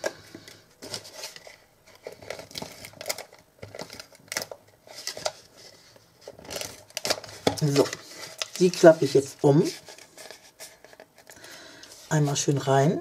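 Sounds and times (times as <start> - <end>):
cardstock rustling and crinkling: 0.0 - 13.0.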